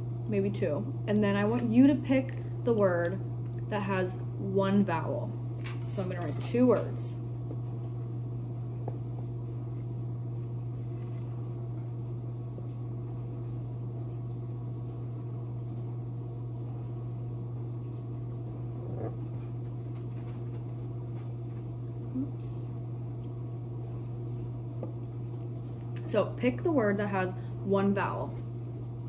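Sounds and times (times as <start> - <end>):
dishwasher humming: 0.0 - 29.0.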